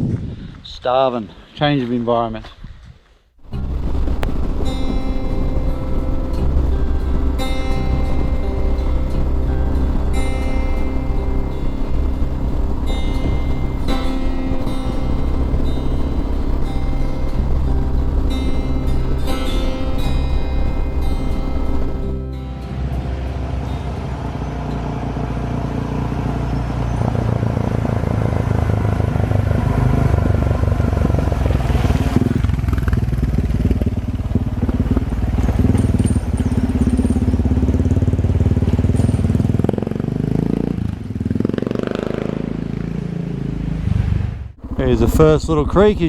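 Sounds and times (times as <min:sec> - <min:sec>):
vehicle engine driving: 0:03.4 - 0:46.0.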